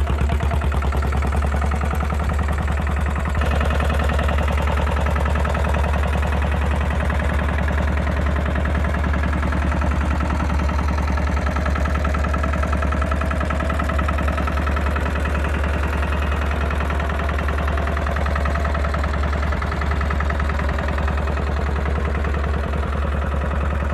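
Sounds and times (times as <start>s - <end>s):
tractor engine idling: 0.0s - 23.9s.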